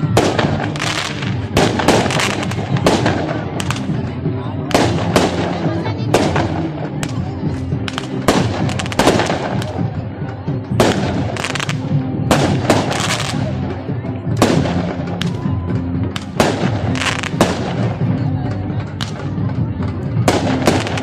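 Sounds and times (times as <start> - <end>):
fireworks bangs: 0.0 - 10.0, 10.6 - 18.3, 20.2 - 21.0
crowd chatter: 0.0 - 21.0
music: 0.0 - 21.0.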